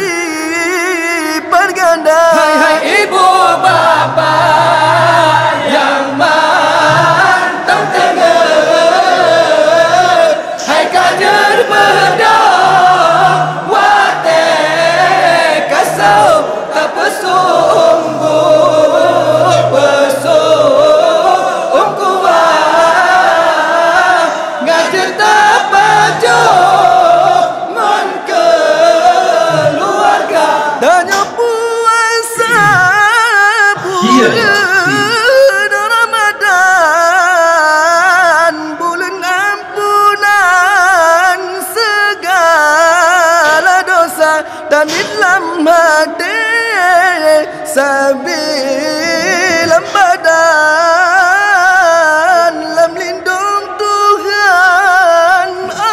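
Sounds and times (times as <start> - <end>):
voices singing melodic song: 0.0 - 55.9.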